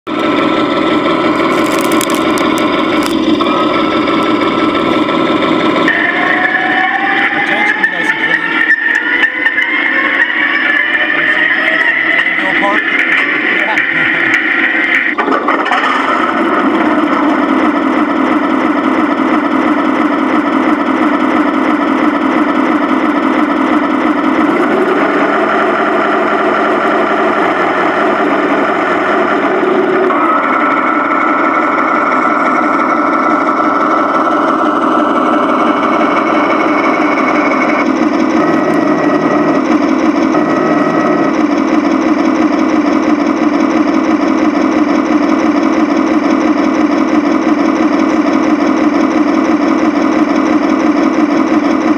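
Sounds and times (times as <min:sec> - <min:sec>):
simulated tank engine from speaker: 0:00.1 - 0:51.9.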